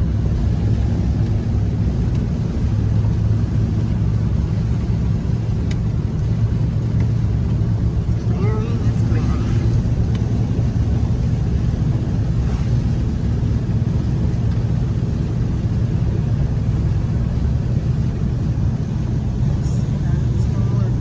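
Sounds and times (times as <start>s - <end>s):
car engine drone: 0.0s - 21.0s
tyres on wet road: 0.0s - 21.0s.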